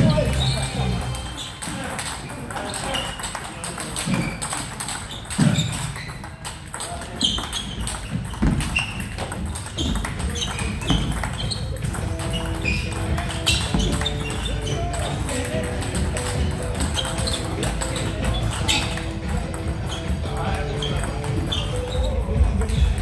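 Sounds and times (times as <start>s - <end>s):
overlapping clicks from other tables: 0.0s - 22.0s
table tennis ball ticking: 1.0s - 22.0s.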